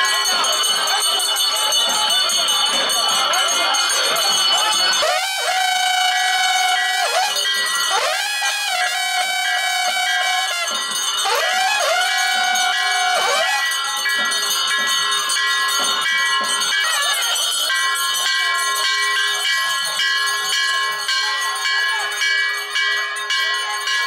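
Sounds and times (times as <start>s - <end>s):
bells ringing continuously: 0.0s - 24.0s
crowd voices: 0.0s - 24.0s.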